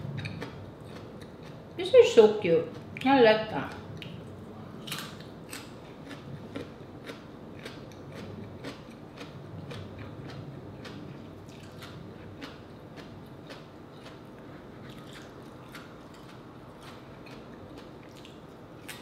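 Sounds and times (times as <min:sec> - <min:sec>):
chewing crisp radish: 0:00.1 - 0:03.1, 0:03.7 - 0:19.0.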